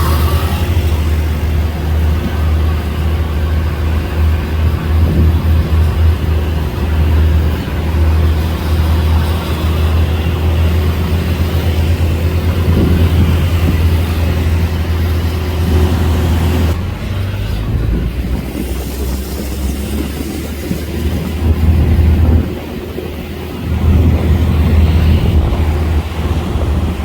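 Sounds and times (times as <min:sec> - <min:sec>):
moving vehicle rumble: 0:00.0 - 0:27.0.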